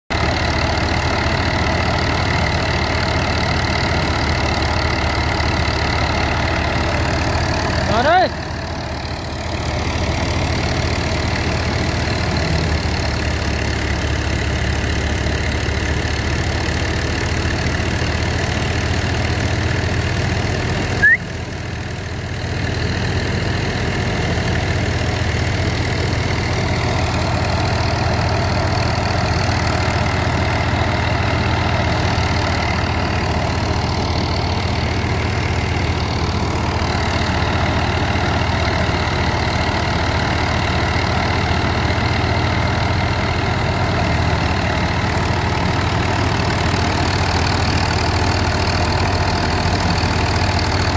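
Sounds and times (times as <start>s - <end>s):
tractor diesel engine running: 0.1s - 50.9s.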